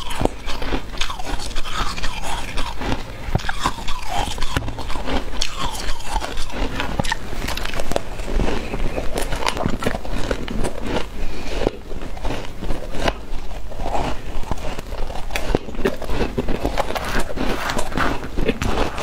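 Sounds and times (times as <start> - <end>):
crunching and chewing frost: 0.0 - 19.0.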